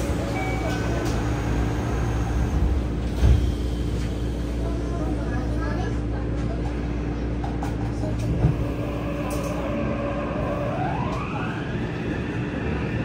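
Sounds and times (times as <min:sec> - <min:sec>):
subway car hum: 0:00.0 - 0:13.0.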